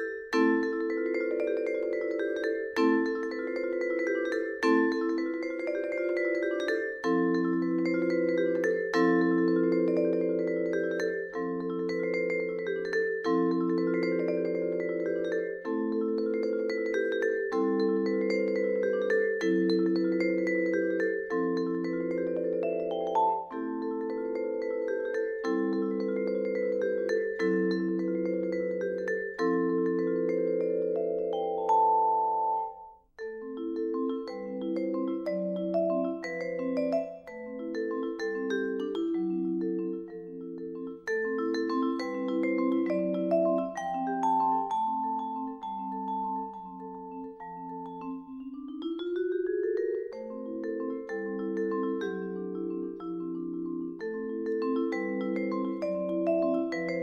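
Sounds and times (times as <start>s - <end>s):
vibraphone chords: 0.0s - 57.0s.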